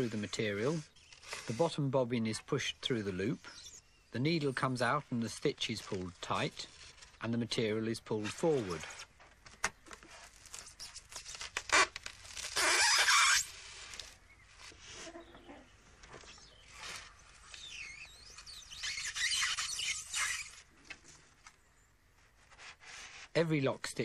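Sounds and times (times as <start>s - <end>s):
polystyrene squeaking and scraping: 0.0s - 9.2s, 9.8s - 21.4s, 22.1s - 24.0s.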